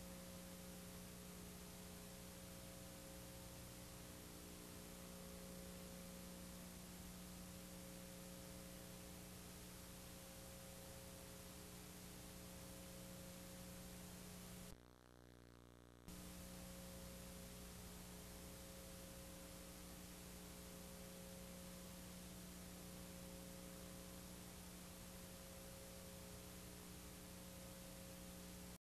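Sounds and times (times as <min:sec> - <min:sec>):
low electrical hum: 0:00.0 - 0:28.8
steady hiss: 0:00.0 - 0:28.8.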